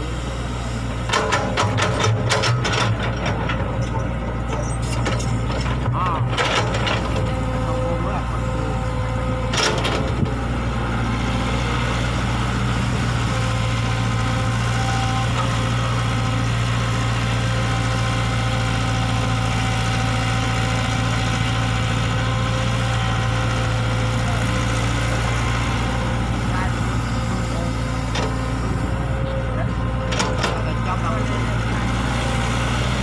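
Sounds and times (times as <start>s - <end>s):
diesel engine running steadily: 0.0s - 33.0s.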